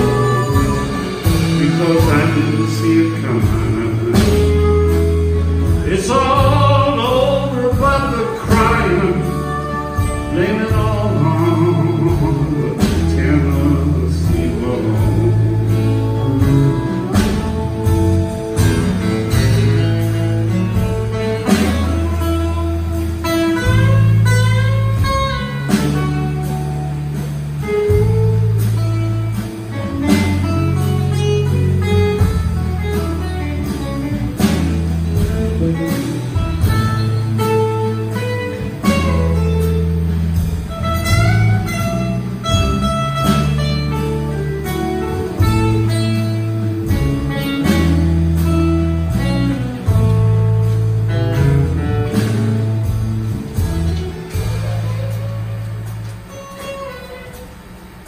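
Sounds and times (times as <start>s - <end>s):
acoustic guitar: 0.0s - 58.0s
bass line: 0.0s - 58.0s
live band playing a waltz: 0.0s - 58.0s.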